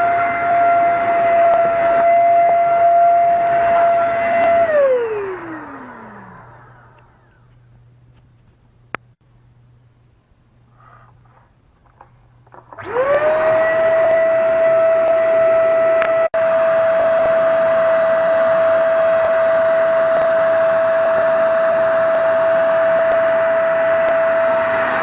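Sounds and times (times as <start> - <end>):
handheld vacuum cleaner whining: 0.0 - 7.9, 12.5 - 25.0.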